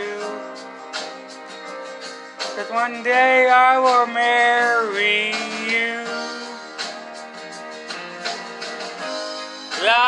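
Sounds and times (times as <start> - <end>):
guitar chords ringing: 0.0 - 10.0.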